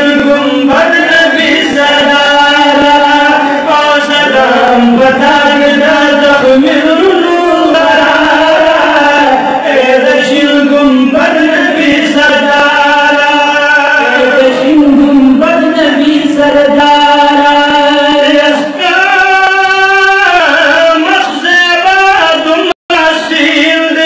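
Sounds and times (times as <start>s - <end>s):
man chanting devotional poetry: 0.0s - 24.0s.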